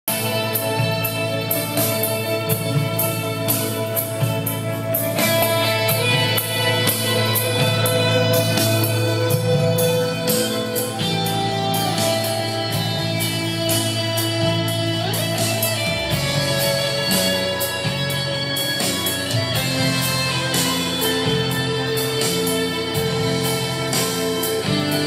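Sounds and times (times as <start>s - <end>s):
guitar rock music: 0.0s - 25.0s.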